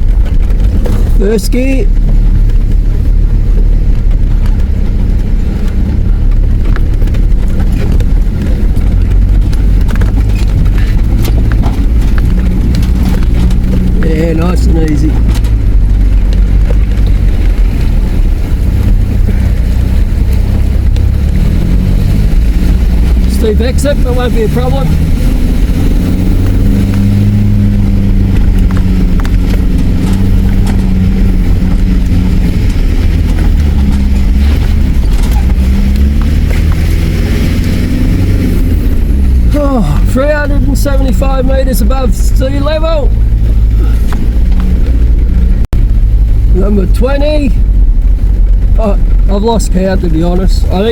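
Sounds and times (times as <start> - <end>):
vehicle engine running slowly: 0.0 - 50.9.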